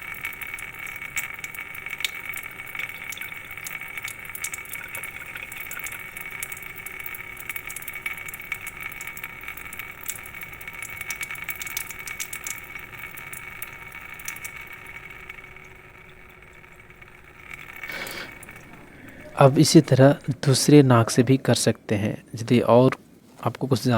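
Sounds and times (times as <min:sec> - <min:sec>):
water trickling and dripping: 0:00.0 - 0:23.3.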